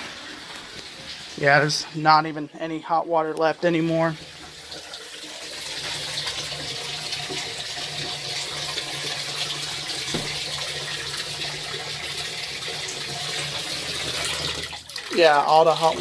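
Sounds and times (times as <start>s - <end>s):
water running from tap: 0.0s - 16.0s.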